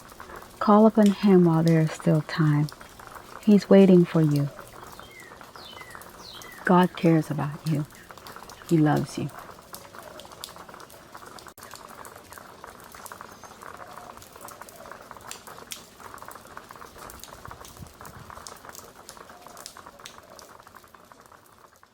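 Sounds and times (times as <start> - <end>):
rain patter: 0.0 - 21.9.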